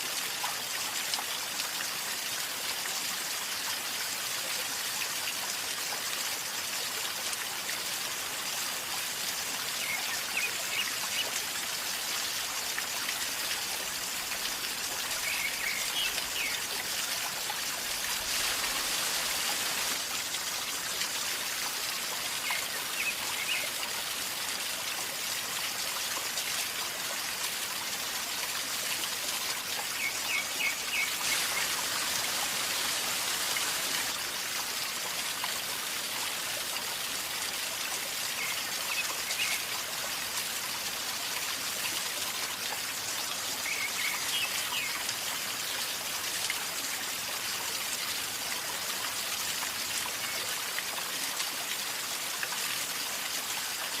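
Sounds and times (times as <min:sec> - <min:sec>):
river water gurgling: 0:00.0 - 0:54.0.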